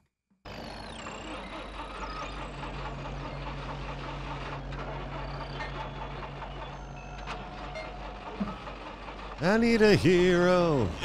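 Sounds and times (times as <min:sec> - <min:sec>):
bulldozer engine rumbling: 0:00.5 - 0:11.0.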